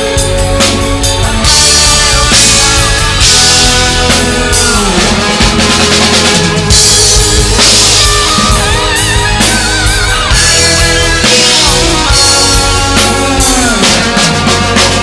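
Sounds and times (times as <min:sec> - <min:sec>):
acoustic drum kit: 0:00.0 - 0:15.0
hard rock song: 0:00.0 - 0:15.0.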